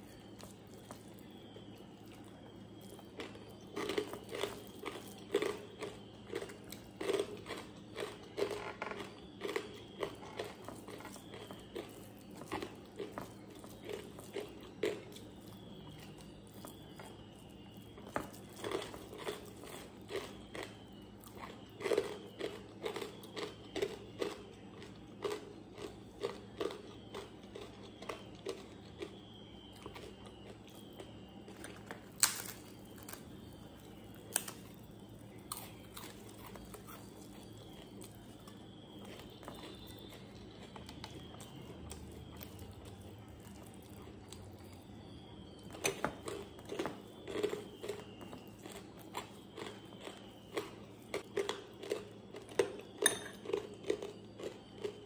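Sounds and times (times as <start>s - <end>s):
crisp crunchy chewing: 0.0s - 55.0s.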